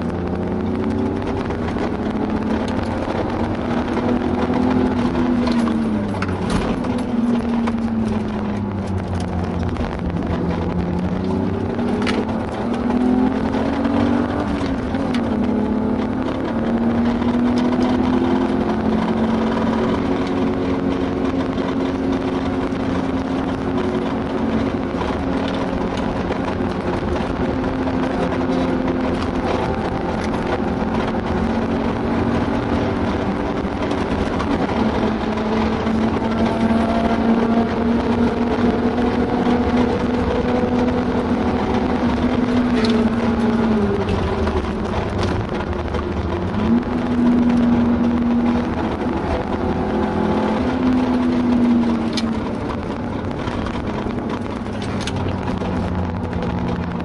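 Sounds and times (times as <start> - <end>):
car engine at full throttle: 0.0 - 57.0
wind noise: 0.0 - 57.0.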